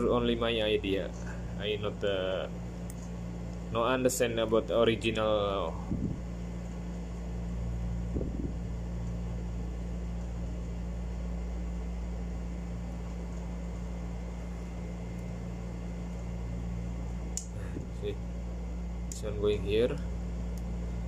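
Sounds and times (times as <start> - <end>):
low machinery hum: 0.0 - 21.0.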